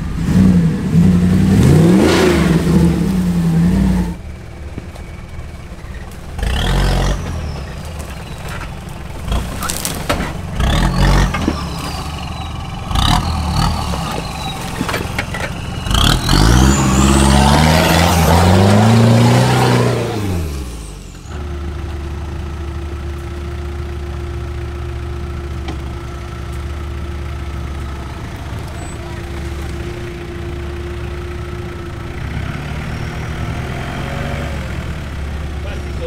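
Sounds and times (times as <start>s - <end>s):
engine revving and idling: 0.0s - 36.0s.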